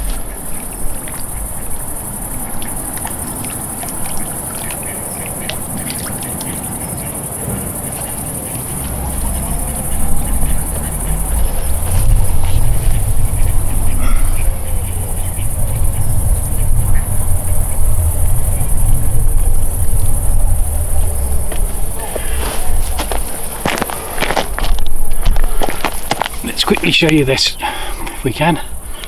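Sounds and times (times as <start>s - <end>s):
wind rumble on microphone: 0.0s - 26.9s
crickets chirring: 0.0s - 29.0s.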